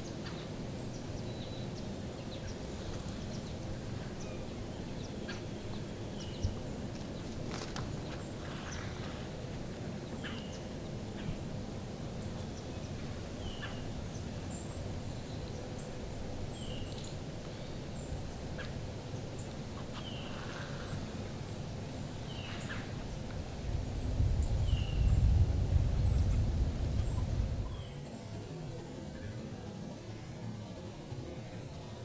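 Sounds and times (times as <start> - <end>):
low background noise: 0.0 - 32.0.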